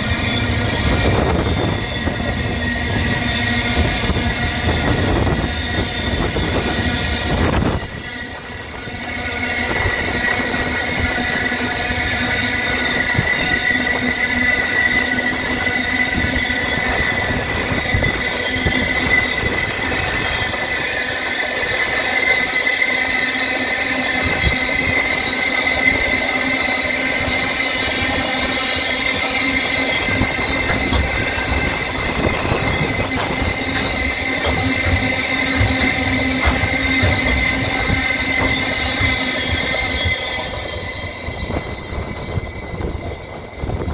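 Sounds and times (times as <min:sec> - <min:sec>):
train rumbling past: 0:00.0 - 0:43.9
train wheels squealing on rails: 0:00.0 - 0:43.9.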